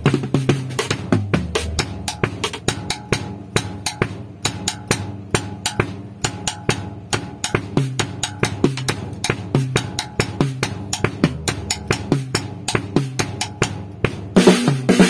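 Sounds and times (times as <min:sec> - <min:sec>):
drum kit merengue rhythm: 0:00.0 - 0:15.0.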